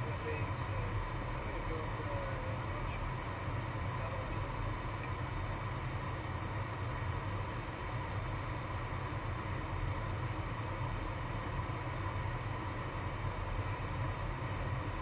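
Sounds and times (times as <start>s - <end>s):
airflow and engine noise: 0.0s - 15.0s.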